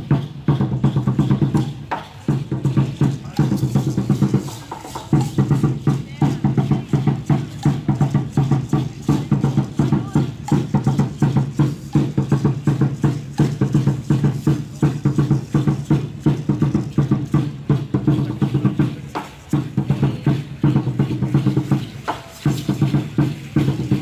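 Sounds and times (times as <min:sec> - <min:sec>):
drum beating fast rhythm: 0:00.0 - 0:24.0.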